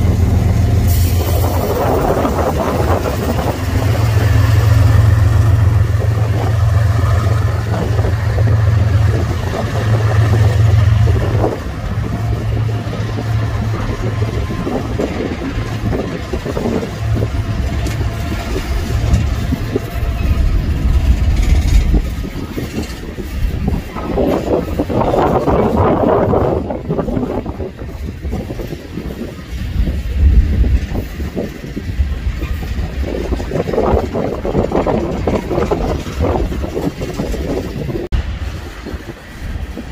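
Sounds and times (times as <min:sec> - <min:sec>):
heavy vehicle engine rumbling: 0:00.0 - 0:39.9.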